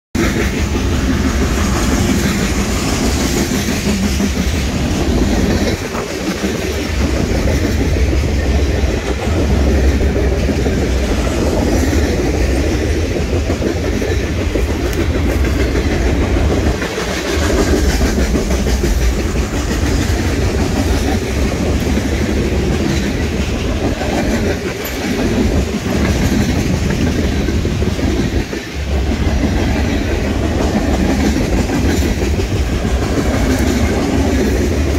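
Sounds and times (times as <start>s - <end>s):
freight train rumbling: 0.1s - 34.9s
wheels clacking over rails: 0.2s - 34.9s.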